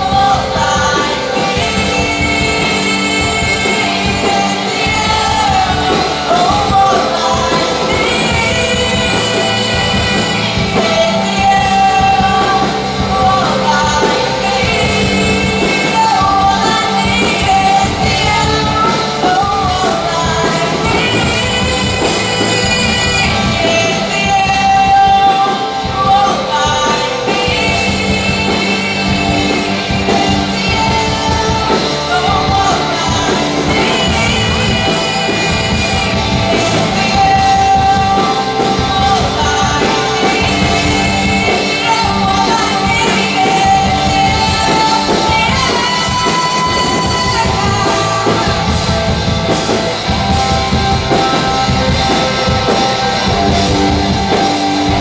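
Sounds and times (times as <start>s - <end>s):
live rock band playing: 0.0s - 55.0s
women singing: 0.0s - 55.0s.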